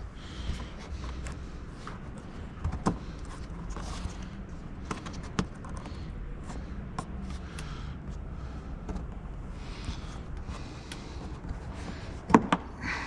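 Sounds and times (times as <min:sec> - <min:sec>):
low steady hum: 0:00.0 - 0:13.0
hands handling car parts: 0:00.3 - 0:12.8.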